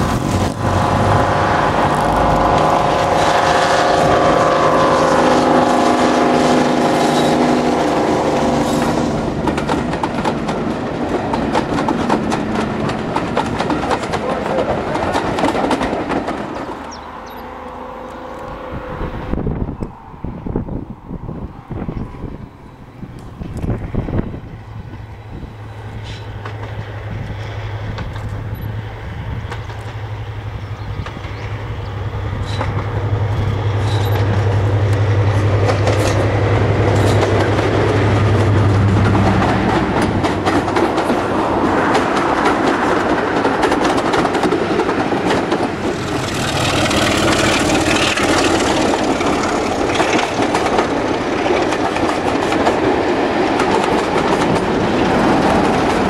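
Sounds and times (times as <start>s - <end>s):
train coaches clattering over rails: 0.0s - 18.5s, 23.2s - 56.0s
diesel locomotive engine drone: 0.0s - 56.0s.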